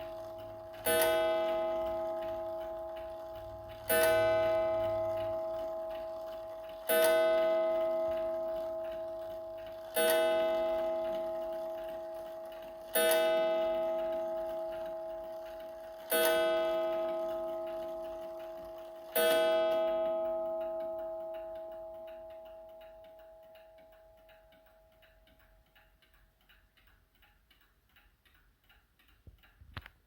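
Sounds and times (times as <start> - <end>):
mantel clock striking: 0.0 - 25.9.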